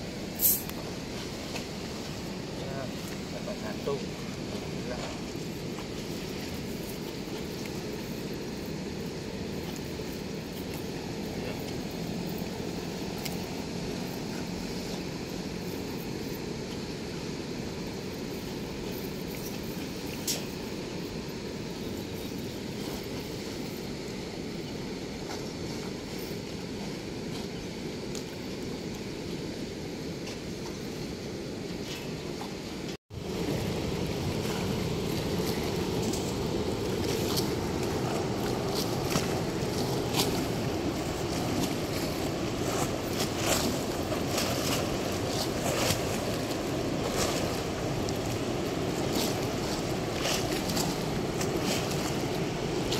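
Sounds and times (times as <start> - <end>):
water rushing through sluice gate: 0.0 - 29.6, 31.6 - 52.9.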